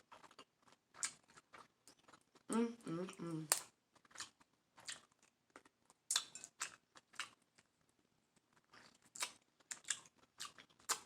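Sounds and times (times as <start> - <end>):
chewing and mouth smacks: 0.0 - 2.5, 3.5 - 7.7, 8.4 - 11.0.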